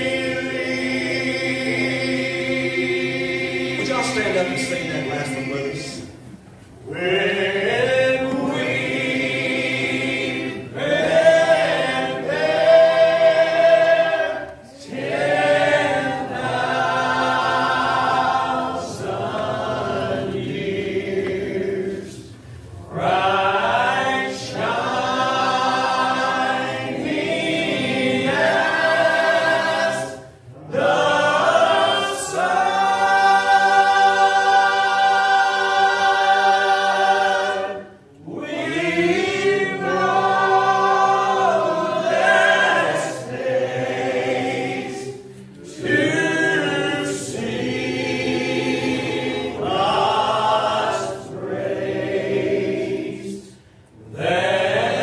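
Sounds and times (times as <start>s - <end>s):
male quartet singing in harmony: 0.0s - 55.0s.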